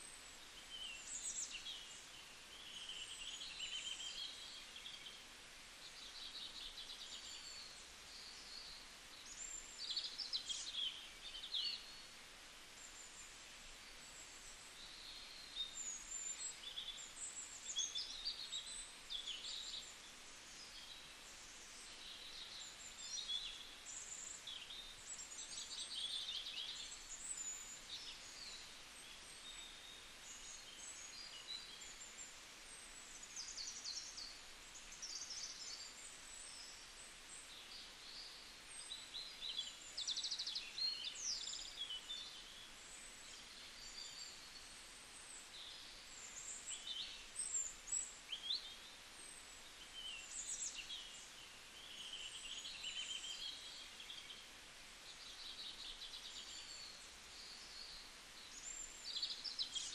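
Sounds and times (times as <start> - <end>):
faint steady hiss: 0.0 - 59.9
small birds chirping: 0.0 - 59.9.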